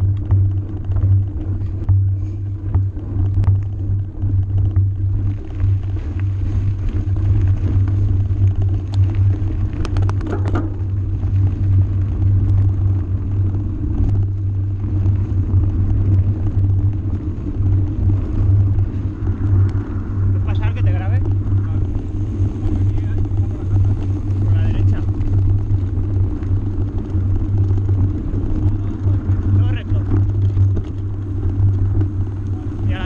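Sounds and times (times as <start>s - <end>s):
ride on gravel track rumble: 0.0s - 33.0s
stones knocking under wheels: 0.0s - 33.0s.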